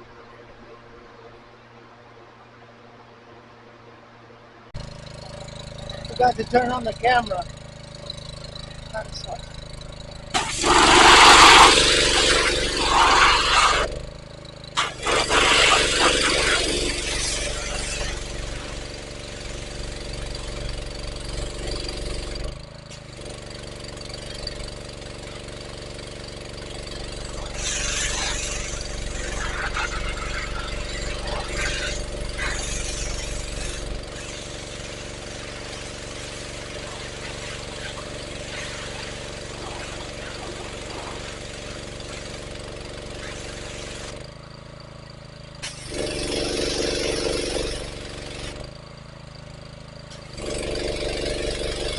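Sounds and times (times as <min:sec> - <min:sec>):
pressure washer engine running: 0:04.8 - 0:51.9
pressure washer hissing: 0:04.8 - 0:51.9.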